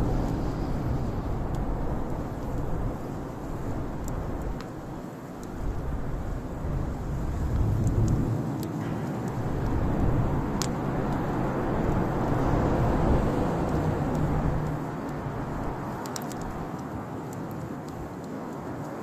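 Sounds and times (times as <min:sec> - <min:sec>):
steady low rumble: 0:00.0 - 0:16.8
campfire crackling and popping: 0:00.0 - 0:19.0.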